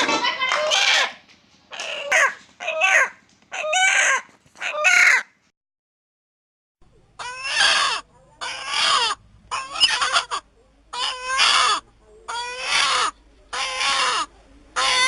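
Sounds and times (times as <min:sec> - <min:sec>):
chicken calling: 0:00.0 - 0:05.3, 0:07.2 - 0:15.0.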